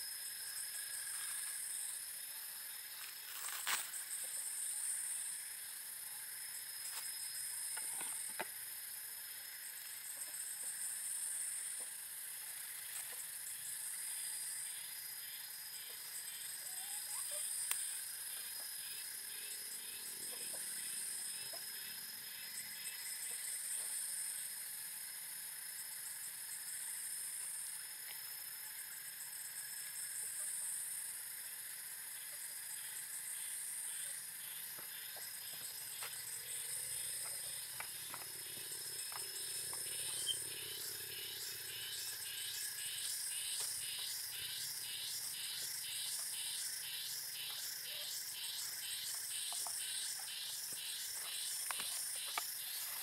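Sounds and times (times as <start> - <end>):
insects pulsing chirps: 0.0 - 53.0
insects trilling: 0.0 - 53.0.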